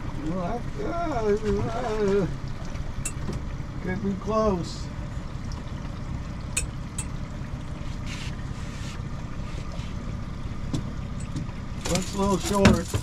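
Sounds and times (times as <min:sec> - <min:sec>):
boat engine rumble: 0:00.0 - 0:13.0
water and wind noise: 0:00.0 - 0:13.0.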